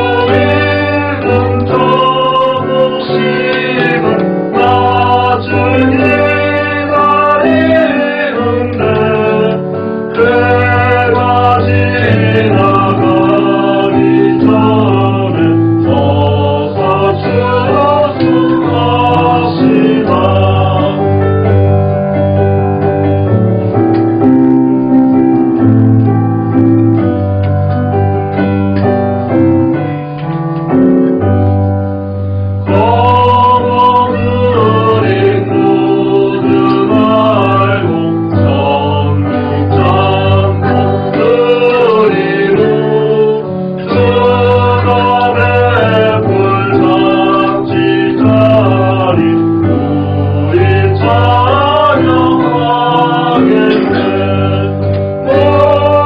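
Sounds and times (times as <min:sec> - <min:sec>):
choir singing: 0:00.0 - 0:21.8, 0:32.7 - 0:56.0
piano accompaniment: 0:00.0 - 0:56.0.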